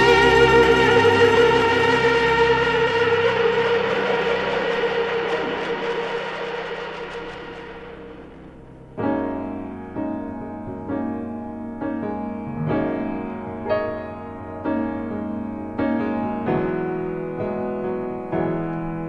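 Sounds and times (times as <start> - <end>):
piano chords ringing: 0.0 - 19.0.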